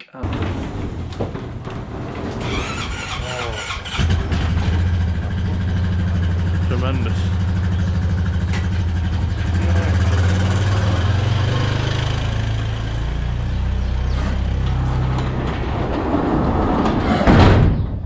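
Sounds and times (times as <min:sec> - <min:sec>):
vehicle engine running: 0:00.2 - 0:15.8.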